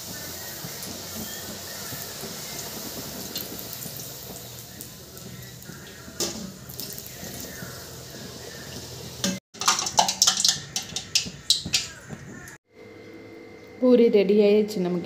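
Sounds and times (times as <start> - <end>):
food deep-frying in oil: 0.0 - 12.6
oil crackling and popping: 0.0 - 12.6.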